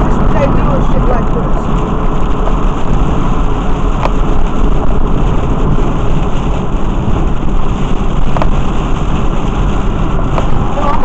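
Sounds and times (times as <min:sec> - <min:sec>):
rain: 0:00.0 - 0:11.0
road and tyre rumble: 0:00.0 - 0:11.0.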